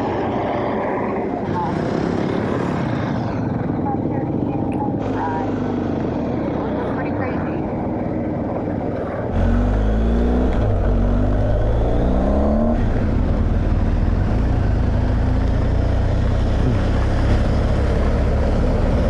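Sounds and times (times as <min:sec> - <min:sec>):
motorcycle engine accelerating: 0:00.0 - 0:19.0
wind and road noise: 0:00.0 - 0:19.0.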